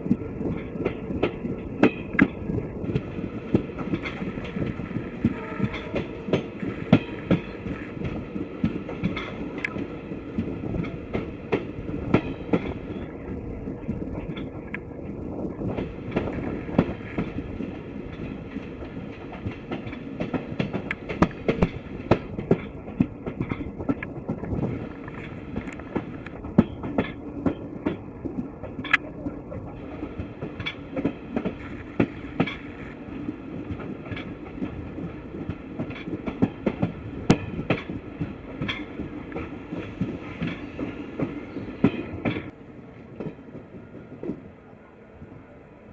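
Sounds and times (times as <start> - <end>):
train carriage rumbling: 0.0 - 45.9
wheels clacking on rails: 0.0 - 45.9.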